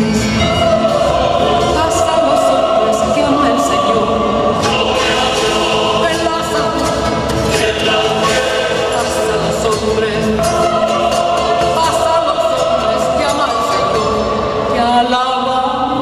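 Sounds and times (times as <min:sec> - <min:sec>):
choir singing long held notes: 0:00.3 - 0:16.0.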